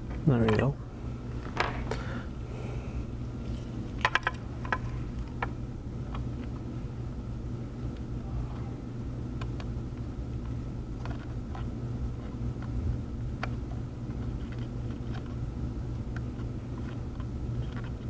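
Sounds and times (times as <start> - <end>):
low hum of equipment: 0.0 - 18.0.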